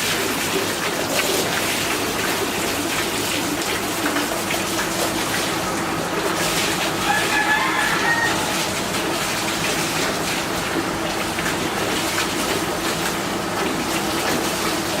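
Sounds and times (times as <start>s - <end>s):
running water gushing: 0.0s - 15.0s.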